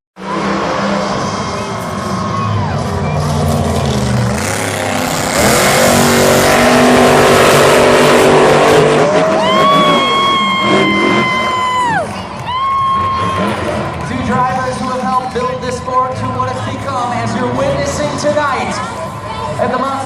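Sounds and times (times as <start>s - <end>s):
monster truck engines revving: 0.2s - 20.0s.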